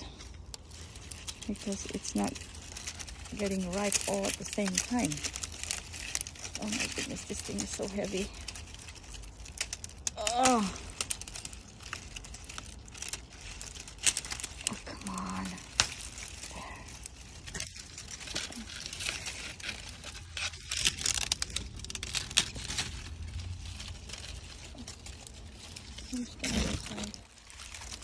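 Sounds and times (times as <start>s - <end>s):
leaves and netting rustling: 0.0s - 28.0s
sharp clicks and crackles: 0.0s - 28.0s.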